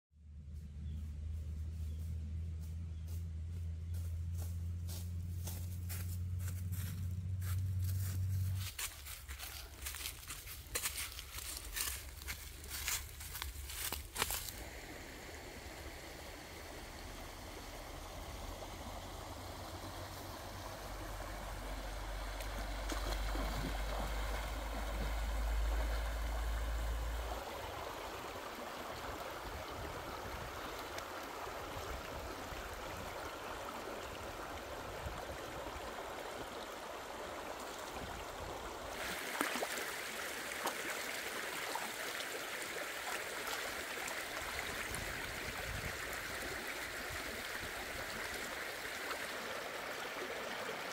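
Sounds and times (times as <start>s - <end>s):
stream water running over rocks: 7.1s - 50.9s
water splashes: 7.5s - 50.9s.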